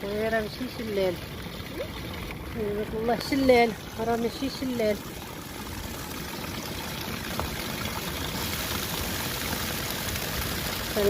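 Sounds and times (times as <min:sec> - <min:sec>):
water pouring over rocks: 0:00.0 - 0:11.0.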